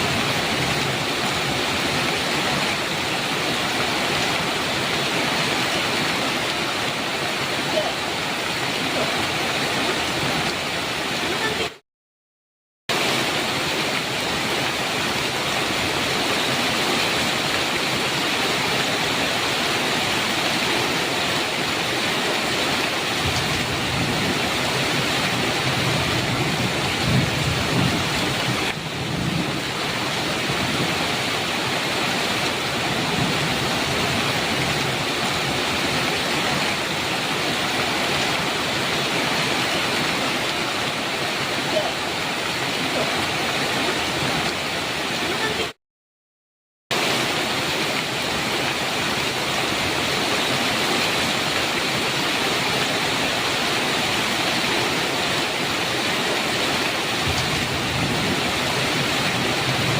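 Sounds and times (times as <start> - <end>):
heavy rain pouring: 0.0 - 11.8, 12.9 - 45.8, 46.9 - 59.9.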